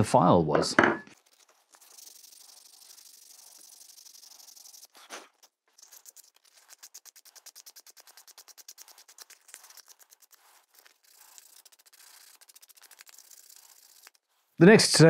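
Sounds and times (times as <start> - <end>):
sandpaper rubbing on wood: 1.2 - 14.6.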